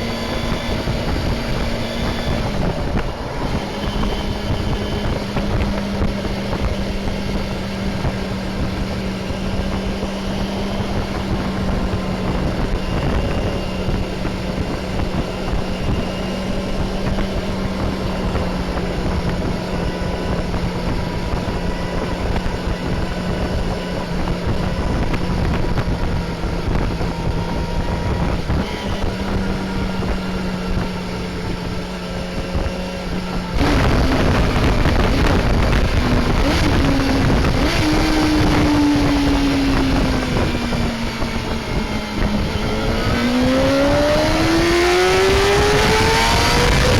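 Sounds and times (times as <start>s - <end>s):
motorcycle engine cruising: 0.0s - 46.9s
wind noise on microphone: 0.0s - 46.9s.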